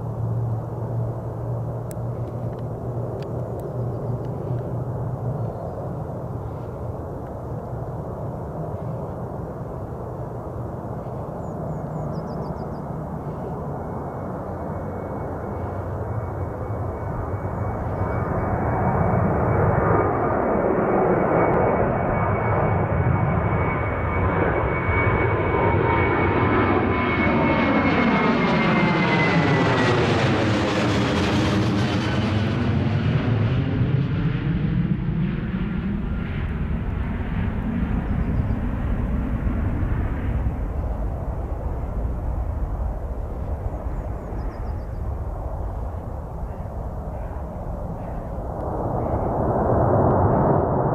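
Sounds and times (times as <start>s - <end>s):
jet airliner passing overhead: 0.0s - 50.9s.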